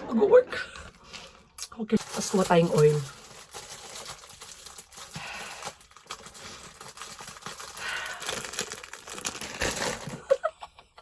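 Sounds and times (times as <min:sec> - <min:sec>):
packaging rustling and crinkling: 0:00.8 - 0:10.4.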